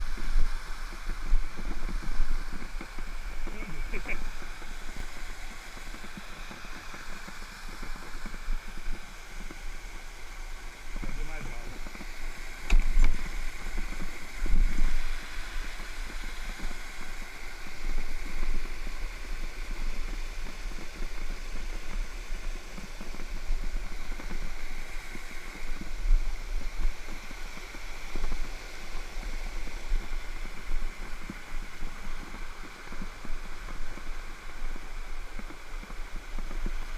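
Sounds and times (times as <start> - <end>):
waterfall rushing: 0.0 - 36.9
wind buffeting microphone: 0.0 - 36.9.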